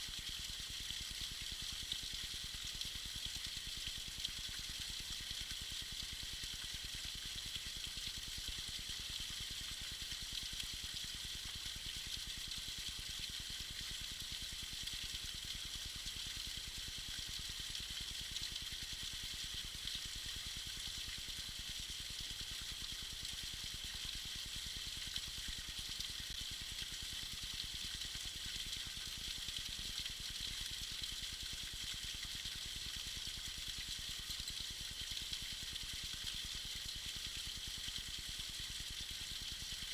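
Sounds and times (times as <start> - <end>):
water trickling over rock: 0.0 - 39.9.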